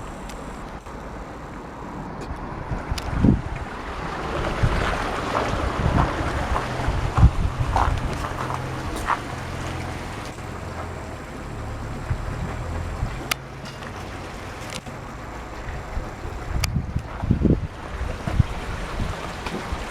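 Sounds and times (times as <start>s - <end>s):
wind gusting against microphone: 0.0s - 13.4s, 14.2s - 19.9s
vehicle engine rumble: 0.0s - 19.9s.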